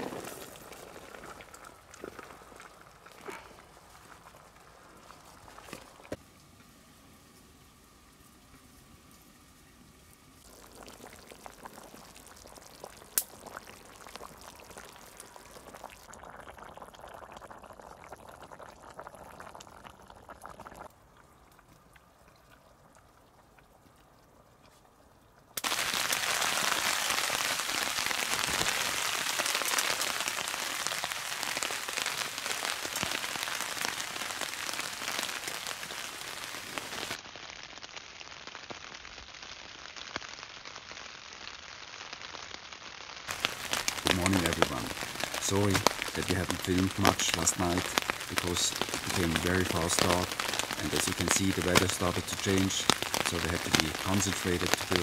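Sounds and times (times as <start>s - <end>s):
wood fire crackling: 0.0s - 7.4s, 10.3s - 55.0s
rain on a tarp: 0.0s - 9.5s, 10.2s - 22.8s, 25.5s - 55.0s.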